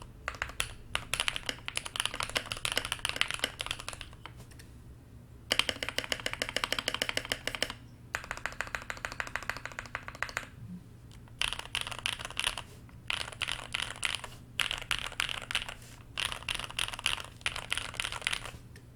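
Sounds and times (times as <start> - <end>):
fast typing on mechanical keyboard: 0.3 - 4.3, 5.5 - 10.5, 11.2 - 18.6.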